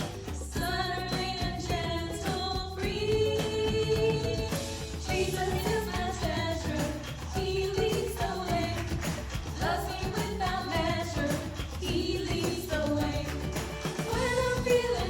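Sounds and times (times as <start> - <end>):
beat and bass backing track: 0.0 - 15.0
pop worship song with singing: 0.0 - 15.0.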